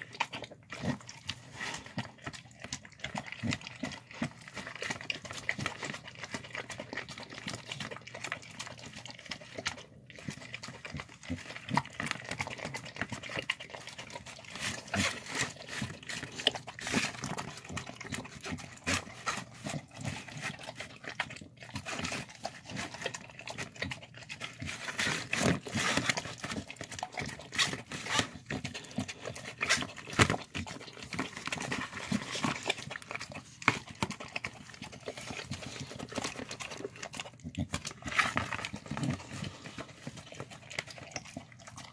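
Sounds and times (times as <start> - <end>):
dog lapping and chewing food: 0.0 - 41.9.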